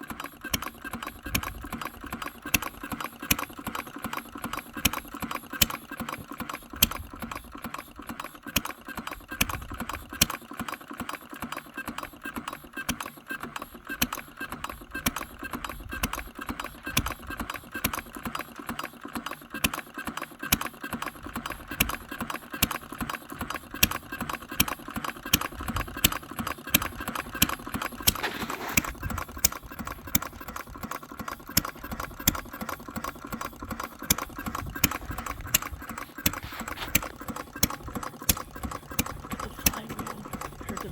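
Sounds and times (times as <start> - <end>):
small engine clattering: 0.0 - 40.9.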